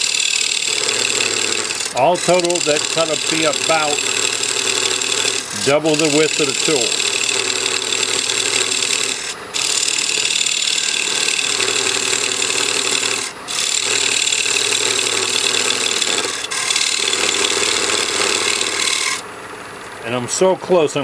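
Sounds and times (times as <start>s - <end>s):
tool scraping spinning wood: 0.0s - 19.3s
lathe running hum: 0.0s - 20.7s.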